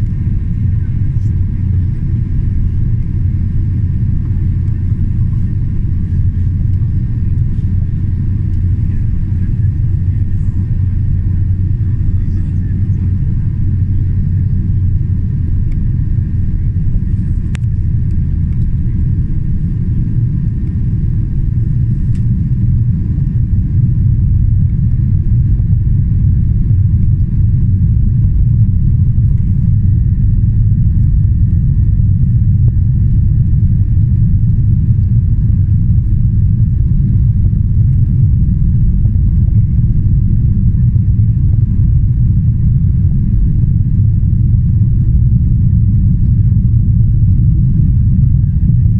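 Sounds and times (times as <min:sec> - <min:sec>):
faint steady whining tones: 0:00.0 - 0:44.5
airplane cabin rumble: 0:00.0 - 0:48.9.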